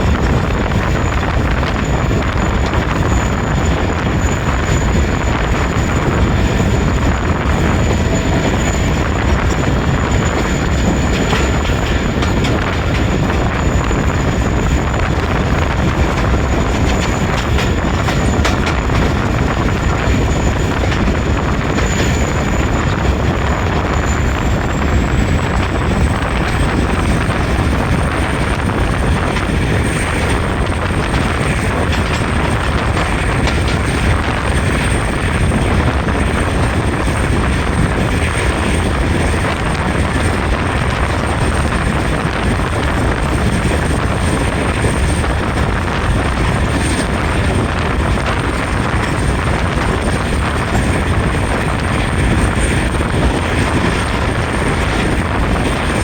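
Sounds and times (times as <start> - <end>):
vehicle running noise: 0.0 - 56.0.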